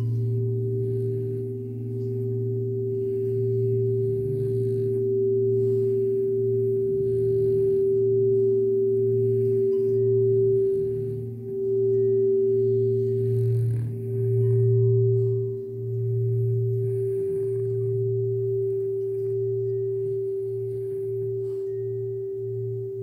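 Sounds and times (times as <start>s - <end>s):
crystal singing bowls ringing: 0.0s - 23.0s.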